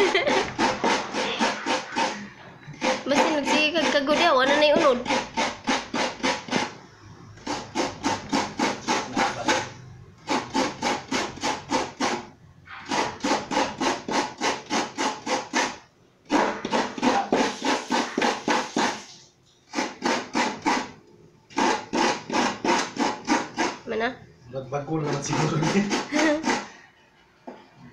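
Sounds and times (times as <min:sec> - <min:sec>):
coconut grating rasps: 0:00.0 - 0:06.8, 0:07.4 - 0:23.9, 0:25.0 - 0:26.8.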